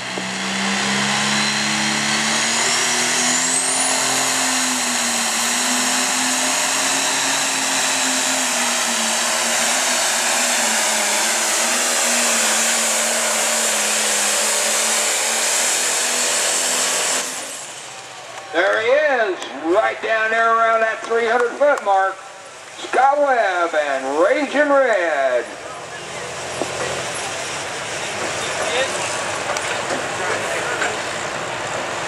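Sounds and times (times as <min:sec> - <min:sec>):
diesel engine at full throttle: 0:00.0 - 0:32.0
high turbo whine: 0:00.0 - 0:32.0.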